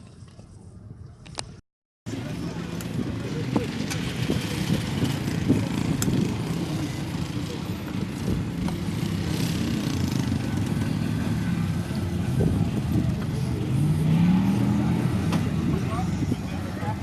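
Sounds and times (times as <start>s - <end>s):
vehicle engine running at low revs: 2.1s - 17.0s.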